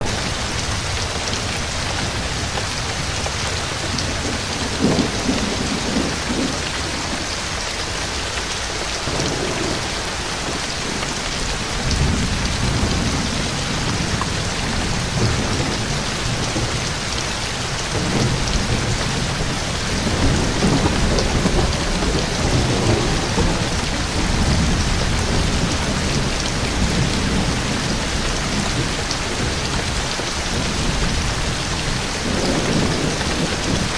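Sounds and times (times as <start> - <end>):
rain hissing: 0.0 - 33.9
thunder rumbling: 0.0 - 33.9.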